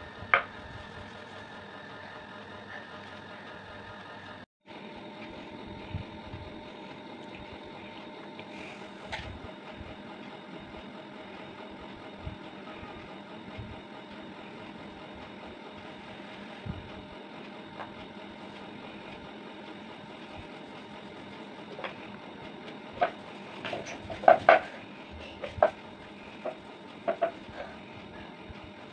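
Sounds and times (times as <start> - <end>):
mechanical hum: 0.0 - 28.9.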